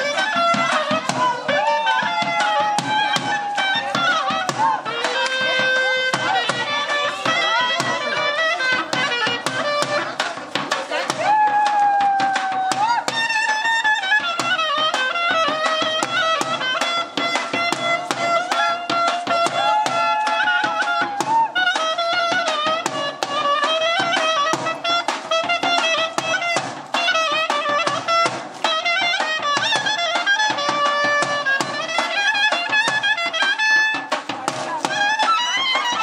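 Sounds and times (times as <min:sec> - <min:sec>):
clarinet melody: 0:00.0 - 0:10.3, 0:13.1 - 0:19.7, 0:20.3 - 0:36.0.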